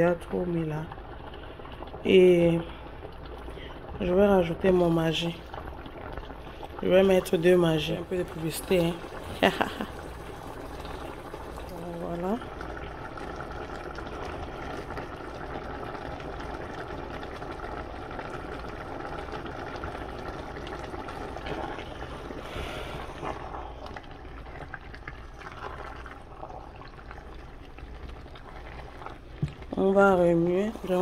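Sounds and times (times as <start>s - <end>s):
soup bubbling in pot: 0.0s - 31.0s.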